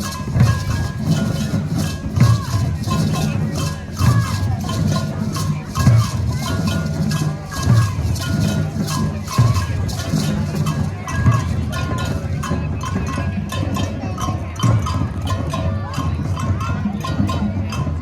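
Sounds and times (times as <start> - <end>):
shakers rattling: 0.0 - 15.0
low drum beat: 0.0 - 18.0.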